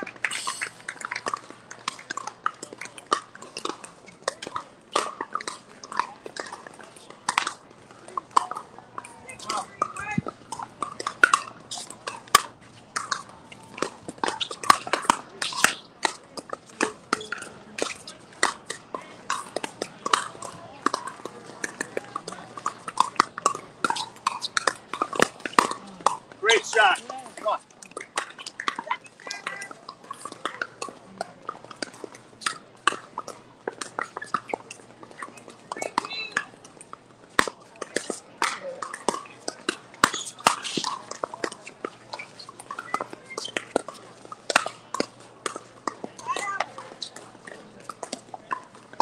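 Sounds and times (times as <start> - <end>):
paddles hitting plastic ball: 0.2 - 49.0
shoes squeaking on court: 8.4 - 49.0.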